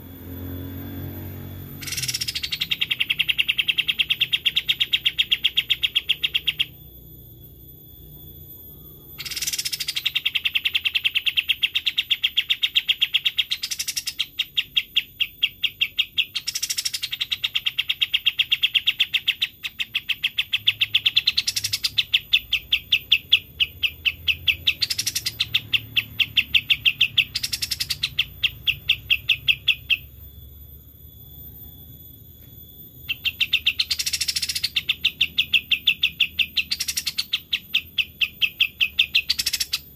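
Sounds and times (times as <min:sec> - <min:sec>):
songbird rapid trill: 0:00.0 - 0:39.9.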